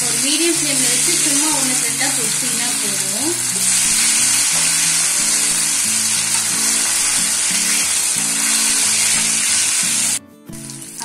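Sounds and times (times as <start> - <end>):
dumplings sizzling in hot oil: 0.0 - 11.0.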